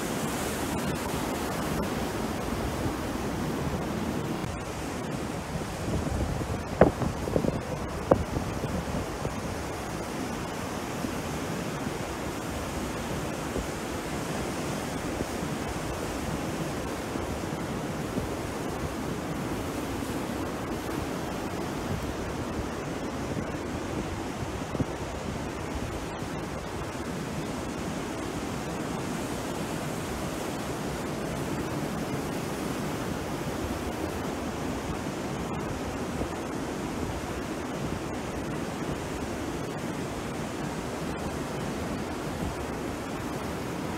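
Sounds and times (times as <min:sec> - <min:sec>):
surf washing onto beach: 0:00.0 - 0:43.9.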